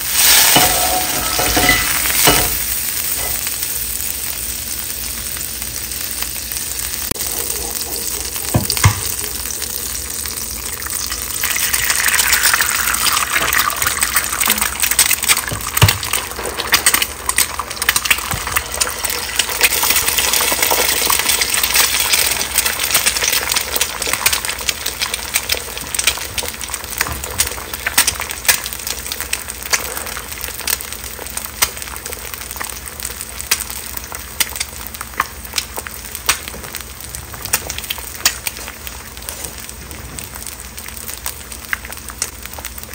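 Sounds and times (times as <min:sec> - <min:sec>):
eggs sizzling in butter: 0:00.0 - 0:42.9.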